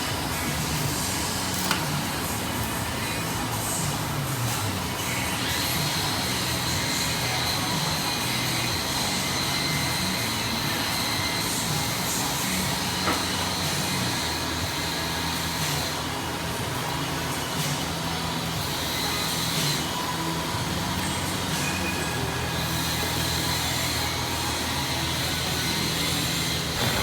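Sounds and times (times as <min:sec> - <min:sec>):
machine whirring: 0:00.0 - 0:27.0
thin high whine: 0:00.0 - 0:27.0.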